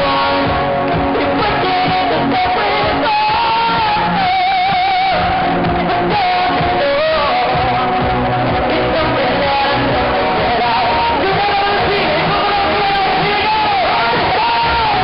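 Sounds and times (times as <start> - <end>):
live pop song through speakers: 0.0 - 15.0.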